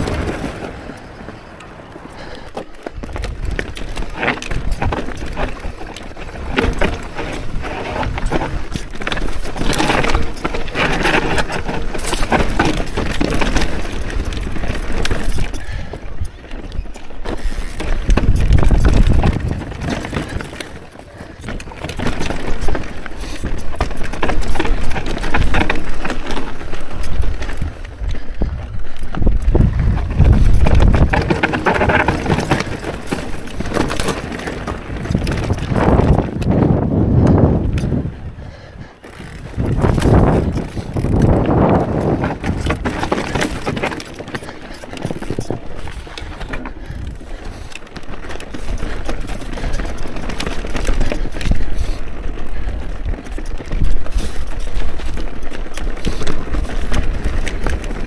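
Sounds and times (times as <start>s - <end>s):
bike rattling on rocky trail: 0.0s - 58.0s
wind rumbling on microphone: 0.0s - 58.0s.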